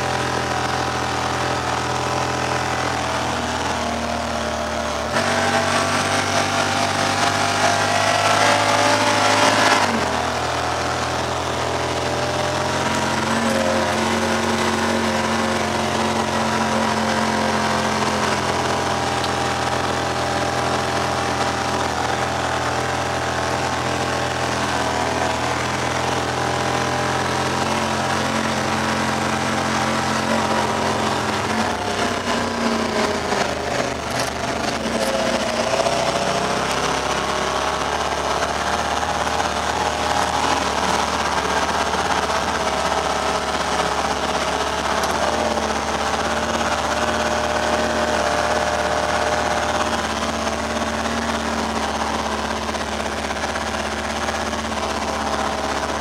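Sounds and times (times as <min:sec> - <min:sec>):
utility vehicle engine running: 0:00.0 - 0:56.0.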